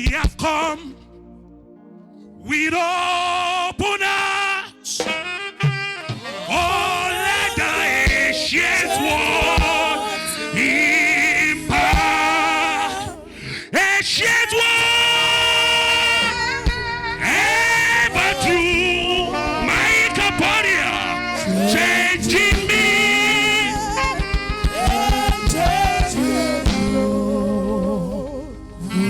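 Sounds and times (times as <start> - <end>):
gospel music: 0.0 - 29.0
person singing long notes: 3.7 - 29.0.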